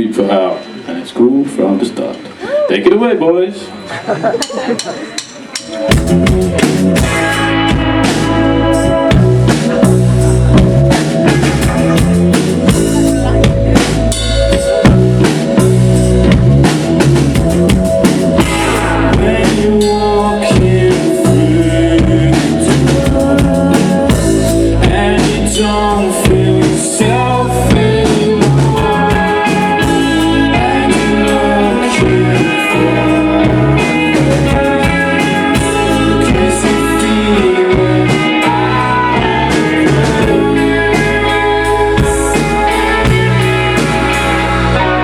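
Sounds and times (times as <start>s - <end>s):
live band playing: 1.8s - 45.0s
loud drum kit: 4.2s - 45.0s.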